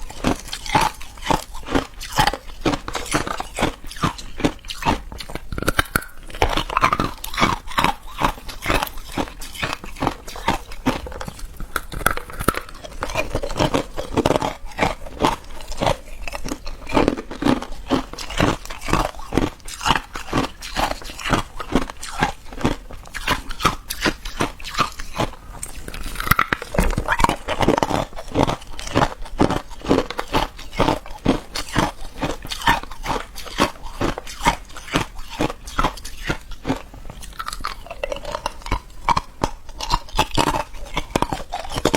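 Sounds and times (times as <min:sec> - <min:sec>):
person chewing ice: 0:00.0 - 0:41.9.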